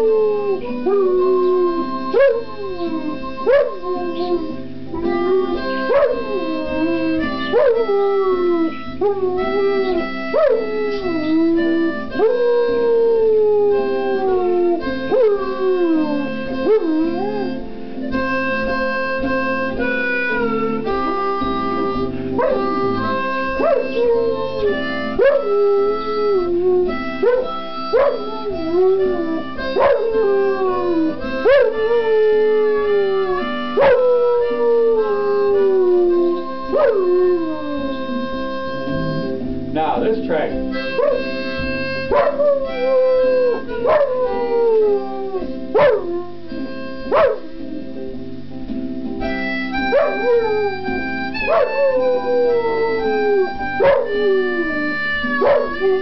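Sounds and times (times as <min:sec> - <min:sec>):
dog howling: 0:00.0 - 0:17.6, 0:21.6 - 0:39.4, 0:40.8 - 0:47.5, 0:49.4 - 0:56.0
blues harmonica chords: 0:00.0 - 0:56.0.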